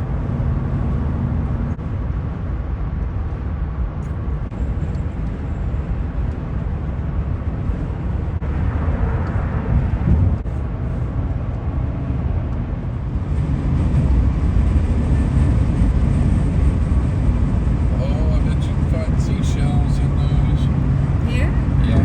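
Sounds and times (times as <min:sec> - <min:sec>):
vehicle driving road noise: 0:00.0 - 0:22.0.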